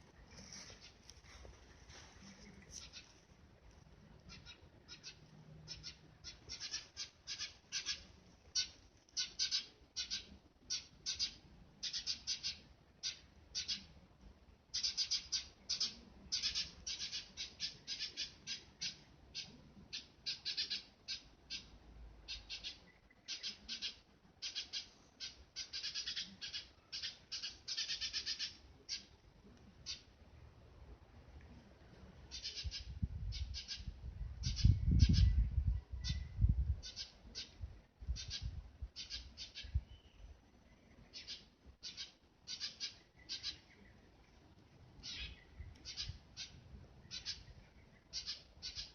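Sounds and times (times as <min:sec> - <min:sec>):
sparrows chirping: 0:02.7 - 0:03.1, 0:04.2 - 0:14.0, 0:14.7 - 0:29.2, 0:32.3 - 0:44.4, 0:45.0 - 0:48.9.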